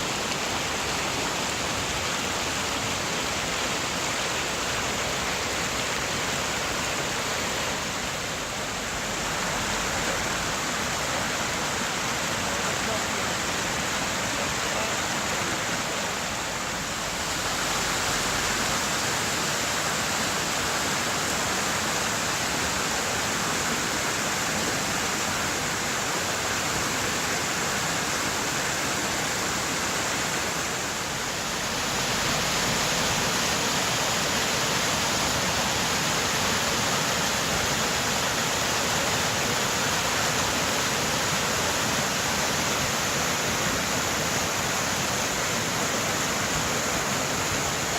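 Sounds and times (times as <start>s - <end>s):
rushing river water: 0.0s - 47.9s.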